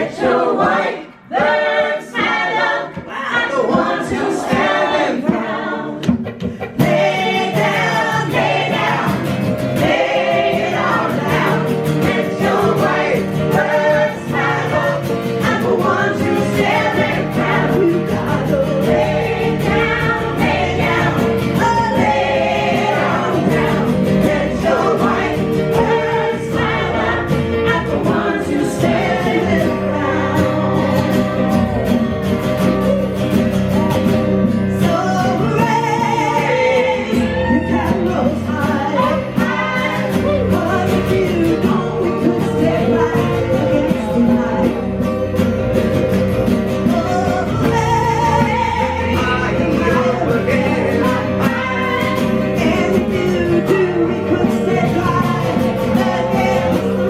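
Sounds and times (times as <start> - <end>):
gospel choir singing: 0.0 - 57.0
musical accompaniment: 0.0 - 57.0.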